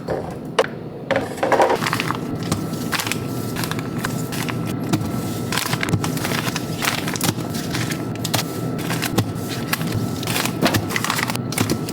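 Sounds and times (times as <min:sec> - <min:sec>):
refrigerator hum: 0:00.0 - 0:11.9
food packages handled: 0:01.3 - 0:11.9.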